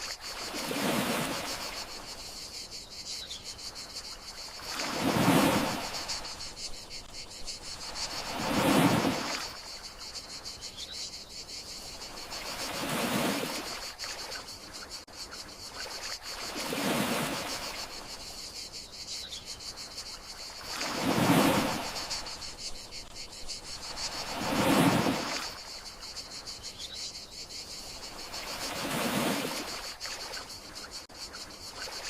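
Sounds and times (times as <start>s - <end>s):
gentle sea waves washing ashore: 0.0s - 2.5s, 3.8s - 10.4s, 11.8s - 15.1s, 15.7s - 18.5s, 19.8s - 26.5s, 27.8s - 32.0s
crickets chirping: 0.0s - 32.0s.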